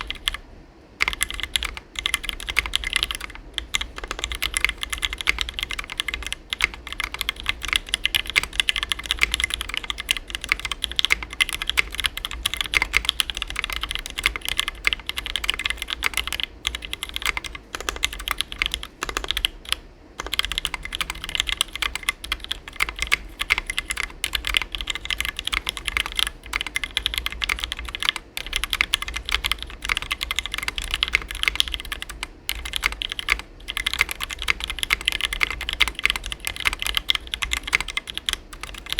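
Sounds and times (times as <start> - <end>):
fast mechanical keyboard typing: 0.0 - 0.4, 1.0 - 38.9.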